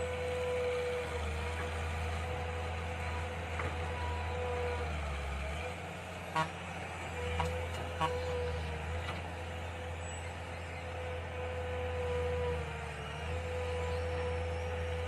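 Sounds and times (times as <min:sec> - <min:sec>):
mini excavator engine droning: 0:00.0 - 0:15.0.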